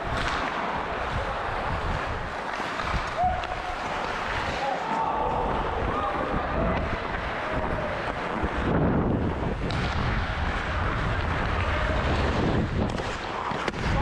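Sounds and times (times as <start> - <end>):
ice skate blades scraping: 0.0 - 14.0
wind on camera microphone: 0.0 - 14.0.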